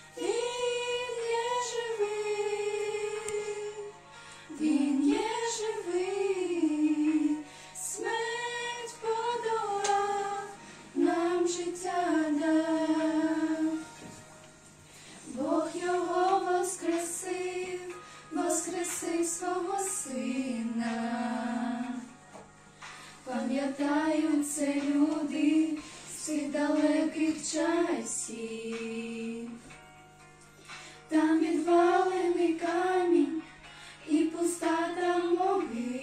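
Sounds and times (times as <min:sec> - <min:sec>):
women singing religious song: 0:00.0 - 0:14.2, 0:15.0 - 0:29.7, 0:31.1 - 0:36.0.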